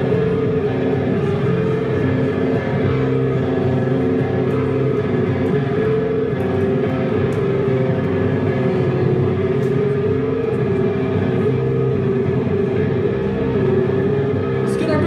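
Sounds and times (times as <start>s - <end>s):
bass guitar: 0.0s - 15.0s
distorted electric guitar: 0.0s - 15.0s.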